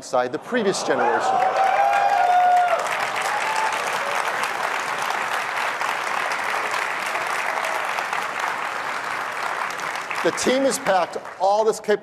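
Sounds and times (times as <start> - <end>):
audience applauding: 0.9 - 12.0.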